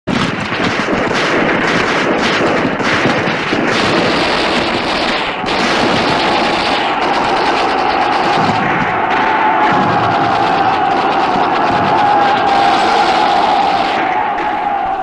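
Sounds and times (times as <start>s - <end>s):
continuous rifle fire: 0.1s - 15.0s.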